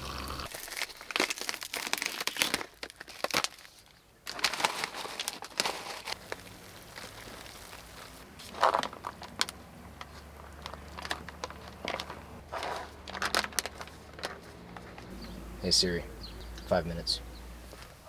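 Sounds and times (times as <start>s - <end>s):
food pouch crinkling: 0.5s - 15.1s.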